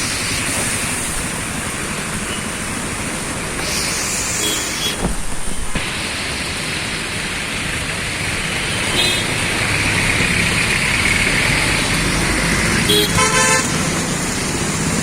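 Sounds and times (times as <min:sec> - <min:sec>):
cars passing on wet road: 0:00.0 - 0:15.0.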